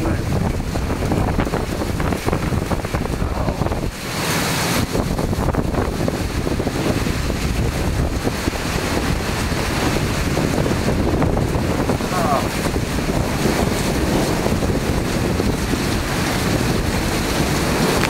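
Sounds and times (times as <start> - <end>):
heavy rain hiss: 0.0 - 18.0
wind buffeting microphone: 0.0 - 18.0.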